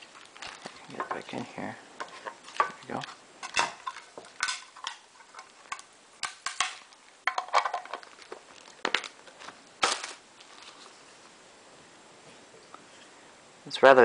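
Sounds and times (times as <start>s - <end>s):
plastic packaging crackling and snapping: 0.0s - 11.3s.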